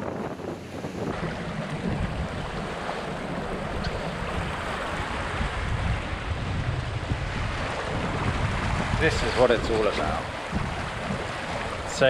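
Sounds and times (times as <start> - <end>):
water rushing along a hull: 0.0 - 12.0
wind buffeting microphone: 0.0 - 12.0.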